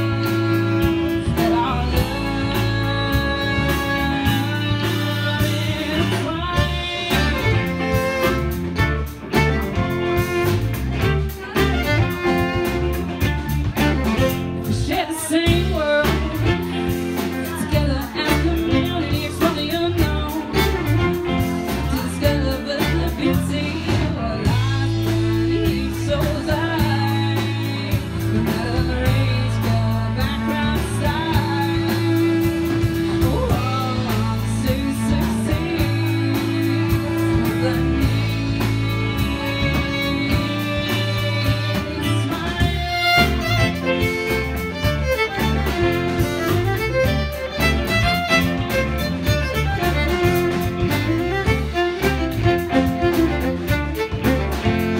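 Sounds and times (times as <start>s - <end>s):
live rock band playing: 0.0s - 54.9s
woman singing lead: 0.0s - 54.9s.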